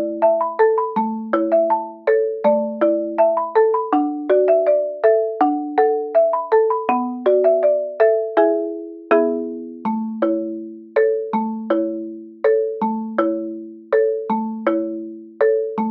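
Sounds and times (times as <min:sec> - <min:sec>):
marimba-like melody: 0:00.0 - 0:15.9.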